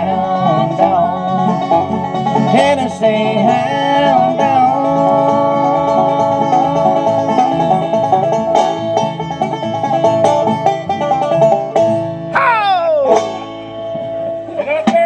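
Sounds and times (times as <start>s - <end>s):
acoustic guitar strumming: 0.0s - 15.0s
banjo roll: 0.0s - 15.0s
upright bass thumping: 0.0s - 15.0s.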